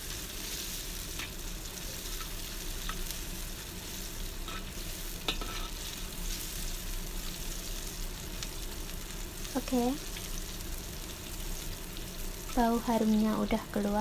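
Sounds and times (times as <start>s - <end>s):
aromatics sizzling in hot oil: 0.0s - 14.0s.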